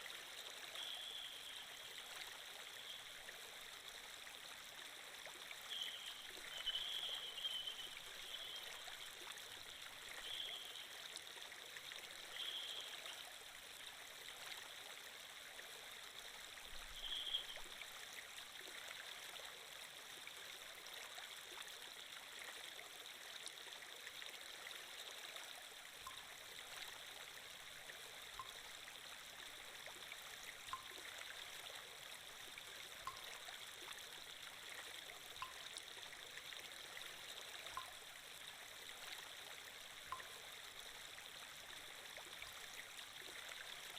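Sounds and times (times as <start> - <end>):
stream running water: 0.0 - 43.9.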